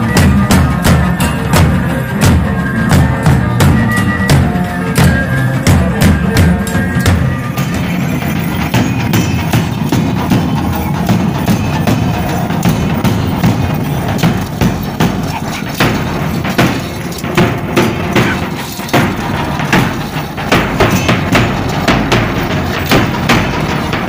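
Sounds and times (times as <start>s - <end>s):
bass drums beating: 0.0s - 24.0s.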